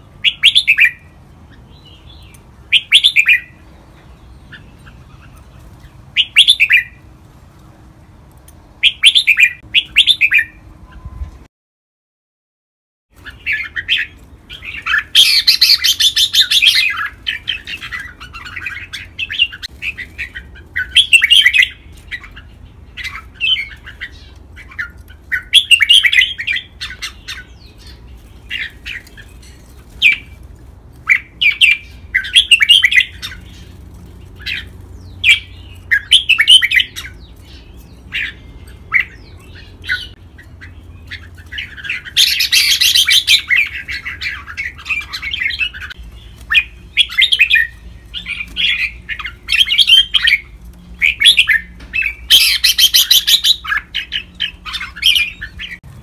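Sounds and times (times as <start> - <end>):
bird chirps: 0.0 - 7.0, 8.7 - 11.4, 13.2 - 56.0
birds singing whistled phrases: 0.0 - 7.0, 8.8 - 11.4, 13.2 - 30.4, 31.0 - 55.9.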